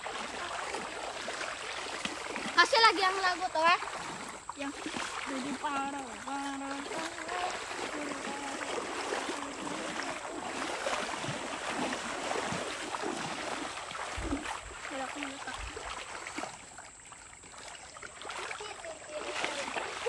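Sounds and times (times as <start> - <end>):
river water splashing around feet: 0.0 - 20.0.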